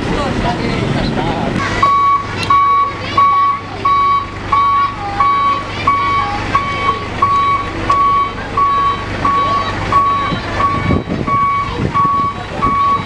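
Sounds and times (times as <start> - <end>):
diesel truck engine humming: 0.0 - 13.0
truck reversing alarm beeping: 1.6 - 13.0.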